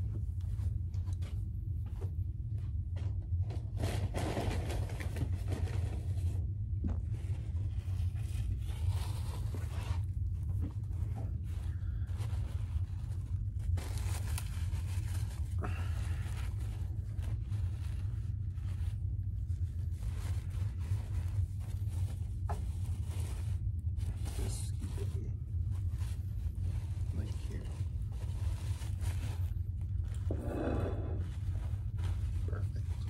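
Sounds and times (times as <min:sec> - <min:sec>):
low hum: 0:00.0 - 0:33.0
paper bags rustling: 0:03.6 - 0:06.4, 0:07.1 - 0:33.0.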